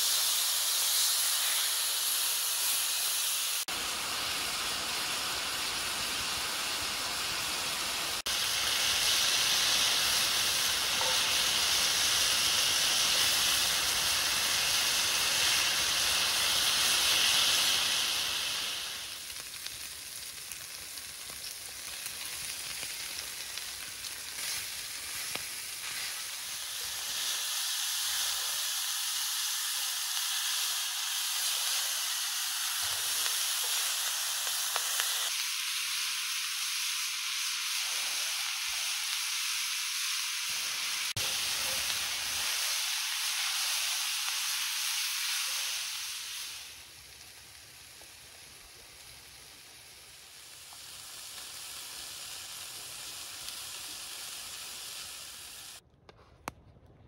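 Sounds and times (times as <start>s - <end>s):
chicken sizzling in hot oil: 0.0s - 55.8s.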